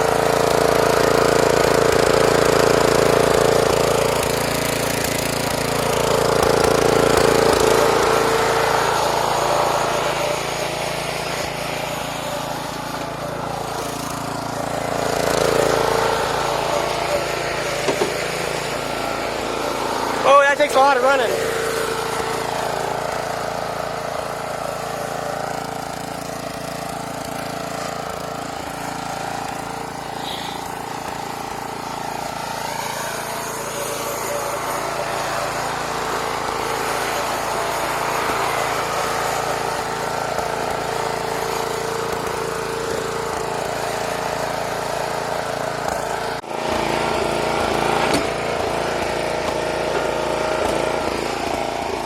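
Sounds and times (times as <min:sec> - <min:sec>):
riding mower engine running: 0:00.0 - 0:52.0.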